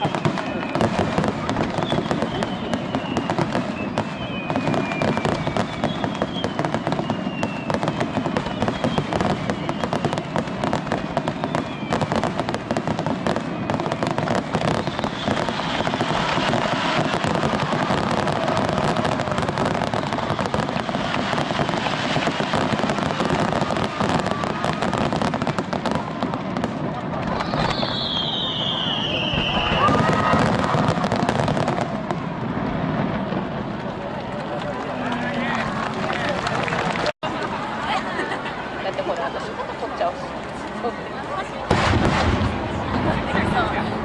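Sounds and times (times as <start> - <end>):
whistling fireworks: 0.0 - 37.2, 38.6 - 44.0
fireworks bursts and crackling: 0.0 - 44.0.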